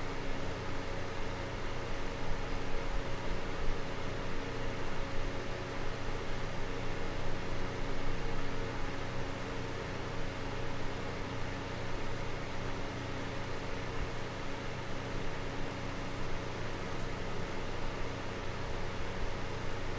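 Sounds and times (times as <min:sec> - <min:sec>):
desk fan running: 0:00.0 - 0:19.9.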